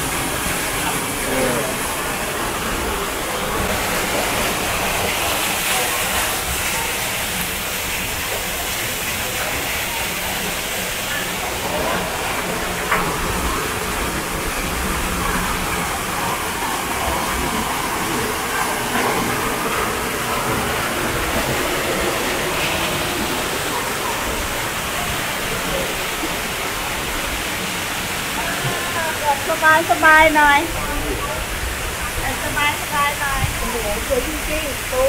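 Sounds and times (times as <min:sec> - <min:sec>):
faint voices: 0:00.0 - 0:35.0.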